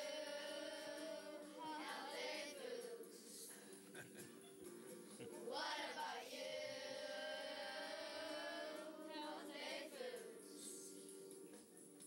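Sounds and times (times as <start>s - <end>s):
children singing together: 0.0s - 3.7s, 5.2s - 11.4s.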